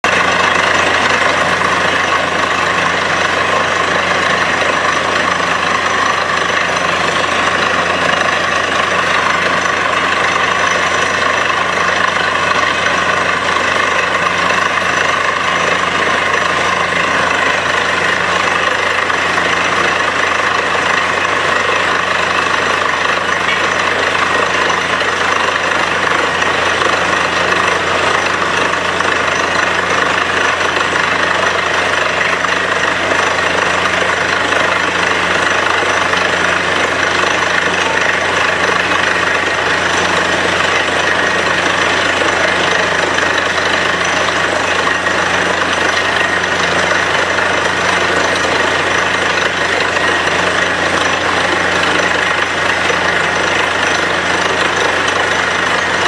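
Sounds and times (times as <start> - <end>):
drilling rig engine drone: 0.0 - 56.0.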